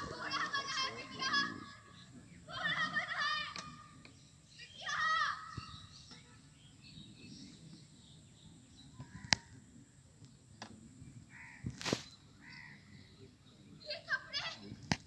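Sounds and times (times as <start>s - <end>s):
faint bird calls: 0.0s - 14.7s
low background murmur: 0.0s - 15.0s.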